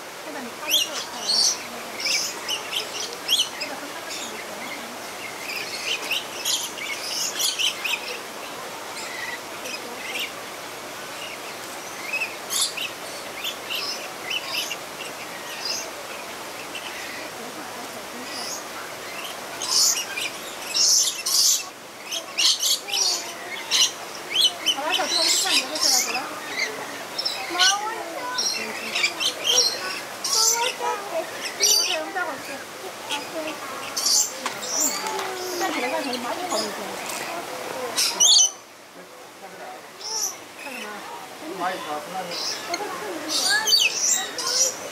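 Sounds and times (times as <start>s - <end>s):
lorikeets chattering and screeching: 0.1s - 44.9s.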